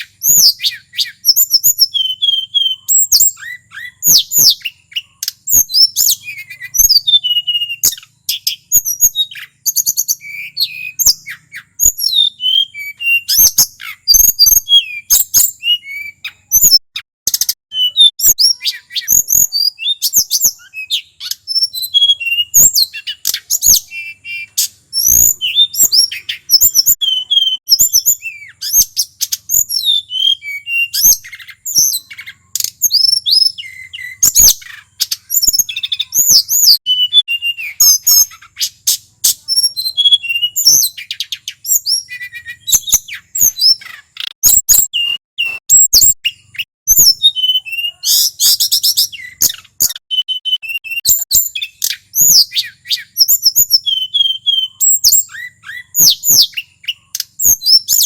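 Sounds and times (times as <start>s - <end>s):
flycatcher singing: 0.0s - 58.0s.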